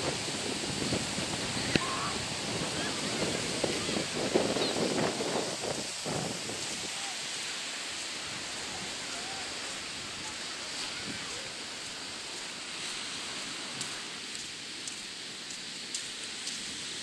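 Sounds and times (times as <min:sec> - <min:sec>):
sea surf on rocky shore: 0:00.0 - 0:17.0
wind: 0:00.0 - 0:17.0.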